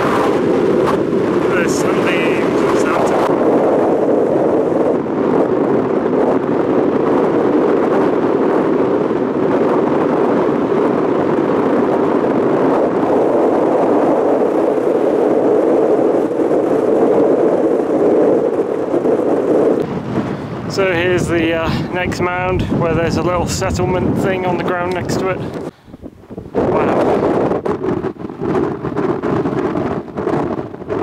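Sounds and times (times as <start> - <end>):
wind blowing on microphone: 0.0 - 31.0.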